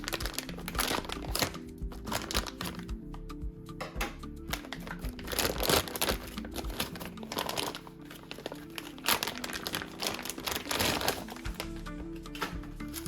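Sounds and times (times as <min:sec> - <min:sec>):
plastic wrapping crinkling: 0:00.0 - 0:02.9, 0:04.4 - 0:13.0.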